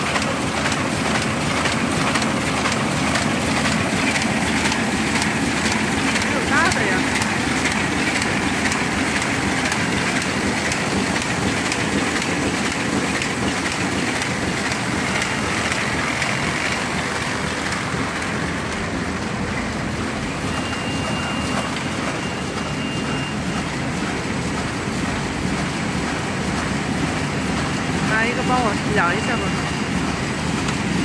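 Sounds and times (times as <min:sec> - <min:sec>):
machine clatter and whir: 0:00.0 - 0:31.0.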